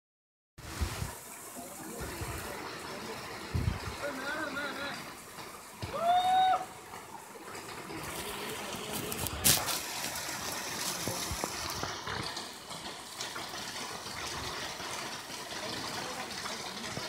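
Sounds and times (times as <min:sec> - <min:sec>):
mountain stream rushing: 0:00.6 - 0:17.0.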